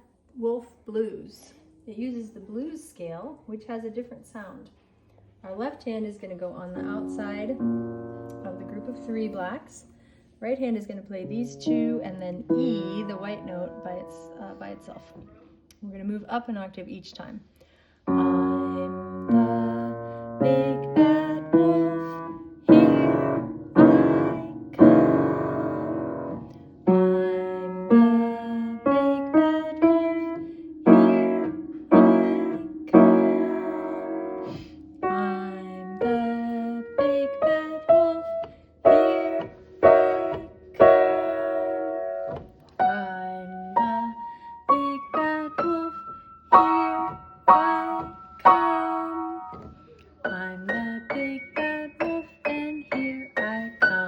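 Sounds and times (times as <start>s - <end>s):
piano chords ringing: 6.7s - 15.7s, 18.1s - 54.0s.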